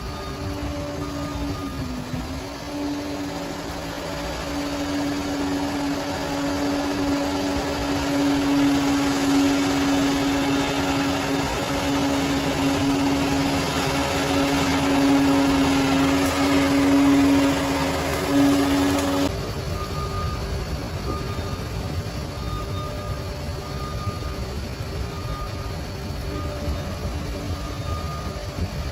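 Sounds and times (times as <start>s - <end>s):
bulldozer engine droning: 0.0s - 28.9s.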